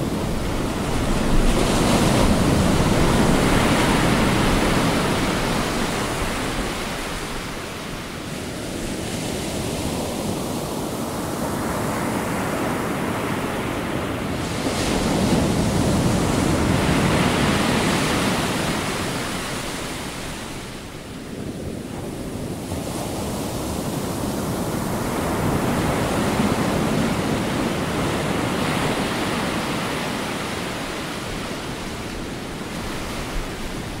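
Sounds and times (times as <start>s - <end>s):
surf breaking and washing in: 0.0s - 34.0s.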